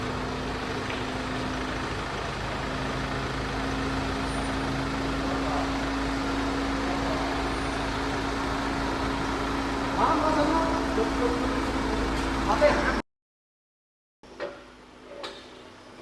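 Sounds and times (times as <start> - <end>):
machine running with hum: 0.0 - 13.0.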